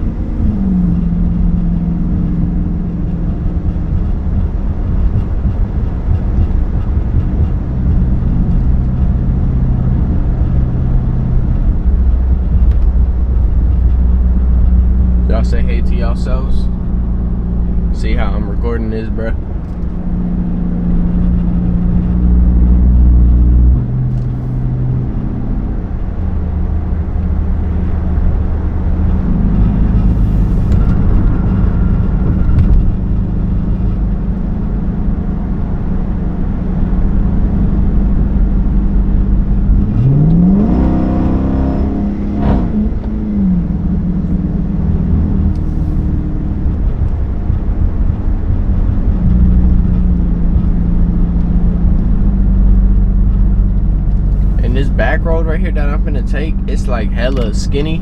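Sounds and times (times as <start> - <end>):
car exhaust loud drone: 0.0 - 58.0.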